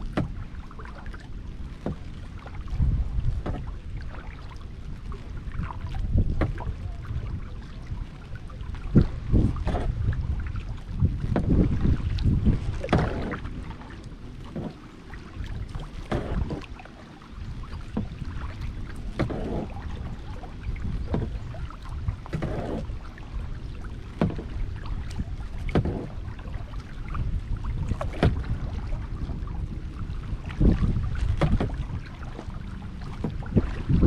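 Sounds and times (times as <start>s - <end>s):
kayak paddle splashing in water: 0.0s - 34.0s
wind rumble on microphone: 0.0s - 34.0s.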